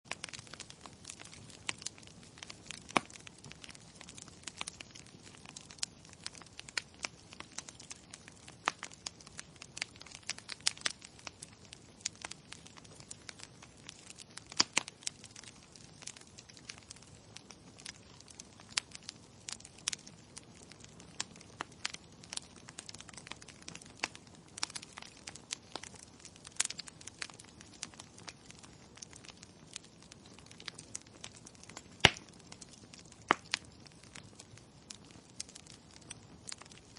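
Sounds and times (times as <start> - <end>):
wood fire crackling: 0.1 - 36.9.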